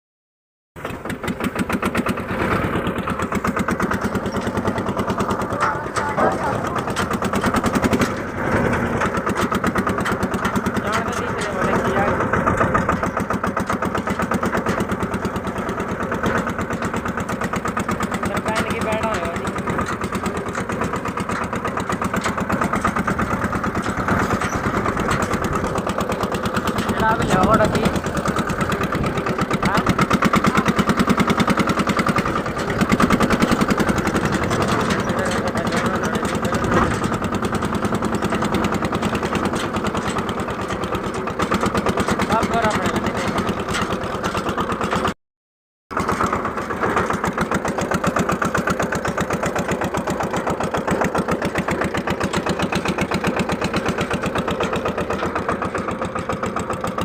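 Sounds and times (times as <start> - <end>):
tractor diesel engine running: 0.8 - 45.2, 45.9 - 57.0.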